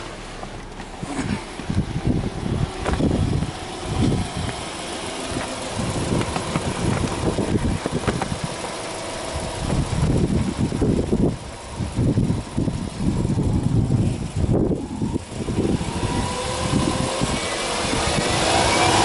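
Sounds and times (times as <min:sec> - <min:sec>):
car engine idling: 0:00.0 - 0:19.0
wind buffeting microphone: 0:01.2 - 0:19.0.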